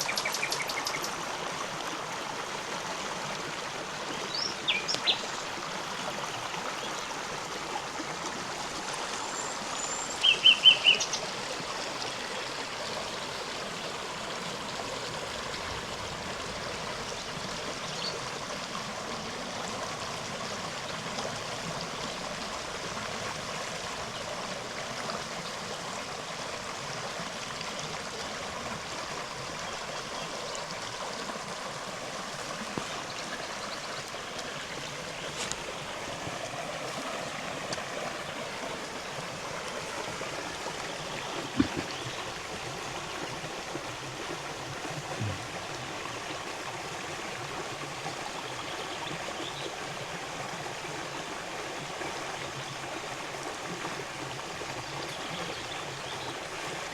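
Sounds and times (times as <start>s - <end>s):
river rippling over stones: 0.0s - 56.9s.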